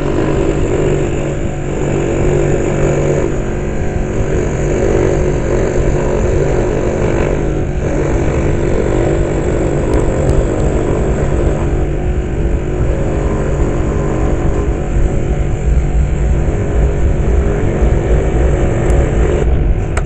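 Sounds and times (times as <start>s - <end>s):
scroll saw cutting wood: 0.0s - 19.5s.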